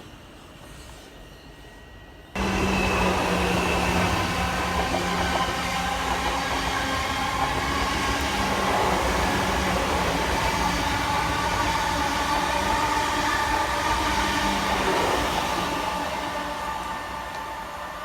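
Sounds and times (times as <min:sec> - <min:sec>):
train low rumble: 0:00.0 - 0:18.0
train whine: 0:00.0 - 0:18.0.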